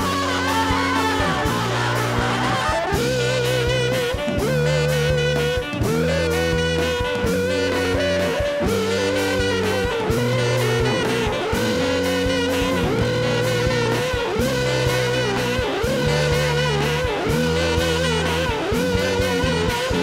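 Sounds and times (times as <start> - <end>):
brass band playing: 0.0 - 20.0
drums: 0.0 - 20.0.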